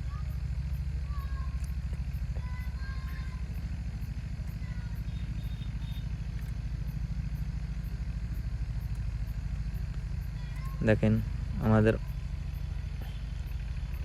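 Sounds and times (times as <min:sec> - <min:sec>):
transformer humming with flutter: 0:00.0 - 0:14.0.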